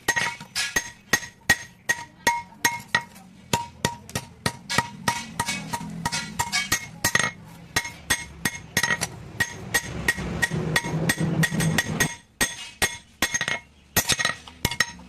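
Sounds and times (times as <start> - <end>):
hammer striking steel on anvil: 0.0 - 15.0.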